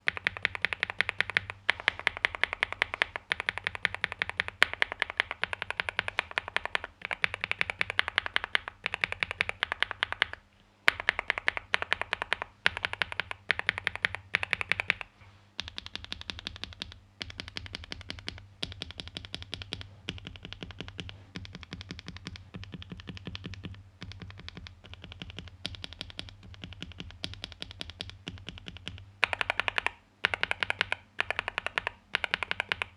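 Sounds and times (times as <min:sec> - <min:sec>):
mechanical keyboard keystroke clacks: 0:00.0 - 0:32.9.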